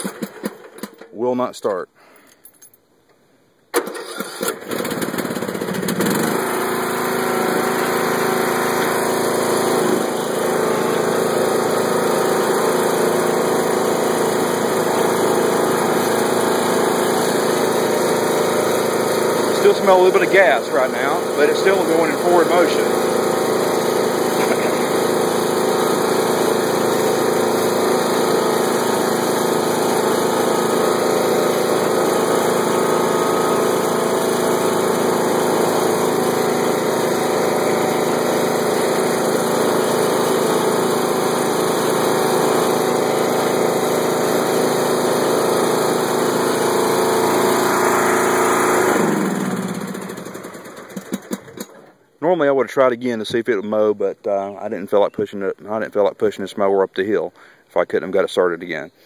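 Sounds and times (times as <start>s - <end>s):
lawn tractor engine running: 0.0s - 1.0s, 3.7s - 52.1s.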